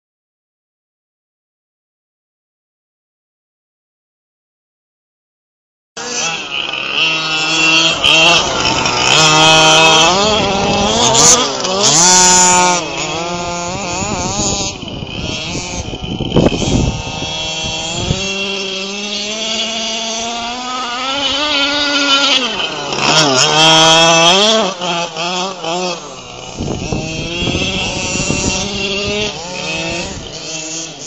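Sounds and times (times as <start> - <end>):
small two-stroke engines revving: 6.0 - 31.0.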